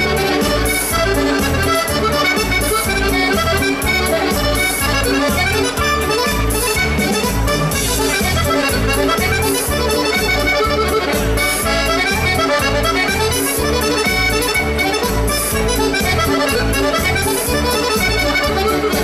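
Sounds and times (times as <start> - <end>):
button accordion dance tune: 0.0 - 19.0.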